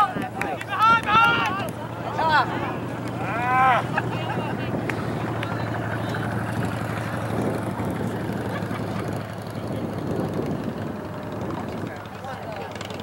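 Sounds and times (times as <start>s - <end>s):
faint distant voices: 0.0s - 13.0s
outdoor noise: 0.0s - 13.0s.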